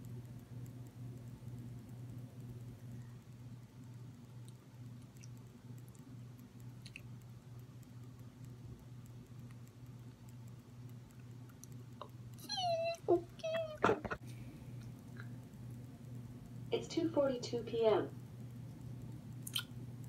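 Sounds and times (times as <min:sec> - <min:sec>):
faint clicks: 0:00.0 - 0:16.6
pulsing low room hum: 0:00.0 - 0:20.0.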